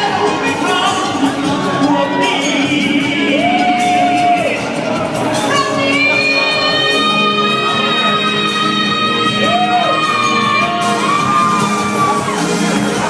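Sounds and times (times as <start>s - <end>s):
loud song with held note: 0.0s - 13.0s.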